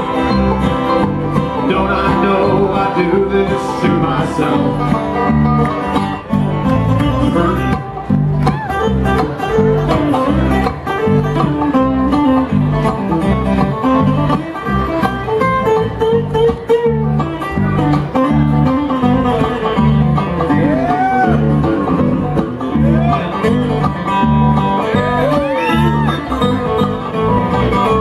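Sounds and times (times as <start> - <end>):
banjo picking: 0.0 - 28.0
guitar picking: 0.0 - 28.0.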